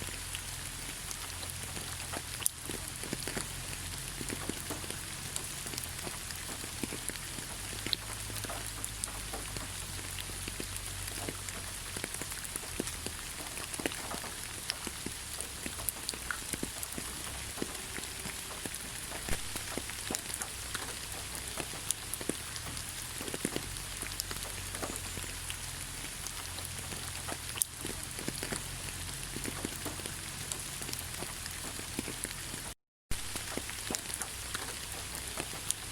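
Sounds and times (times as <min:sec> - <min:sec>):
raindrops tapping: 0:00.0 - 0:35.9
steady rain hiss: 0:00.0 - 0:35.9.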